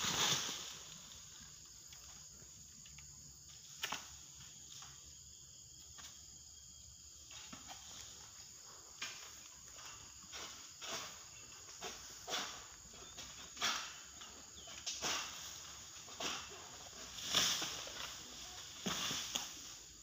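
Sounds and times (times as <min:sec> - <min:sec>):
faint insect drone: 0:00.0 - 0:20.0.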